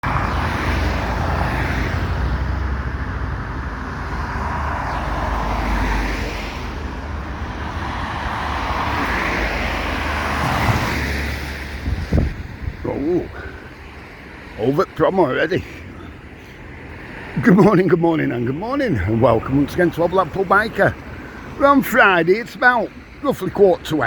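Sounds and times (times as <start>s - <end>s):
cars passing: 0.0s - 24.0s
low traffic rumble: 0.0s - 24.0s.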